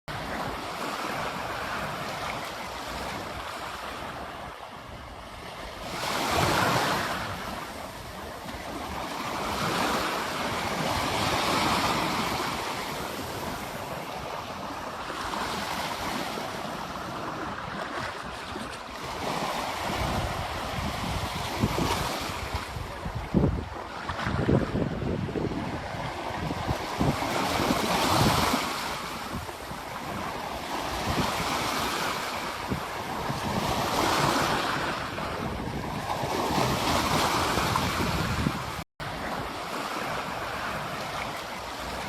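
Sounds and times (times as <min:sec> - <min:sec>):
ocean waves breaking on beach: 0:00.1 - 0:42.0.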